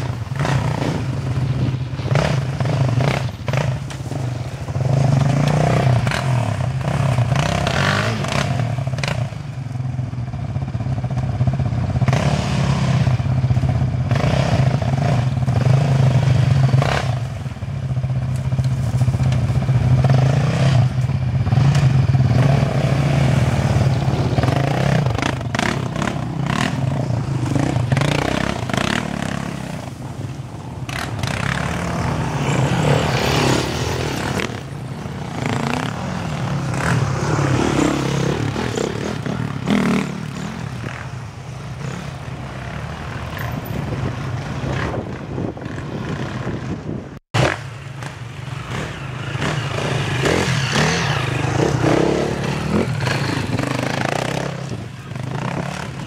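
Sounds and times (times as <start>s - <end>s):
off-road engines revving past: 0.0s - 56.0s.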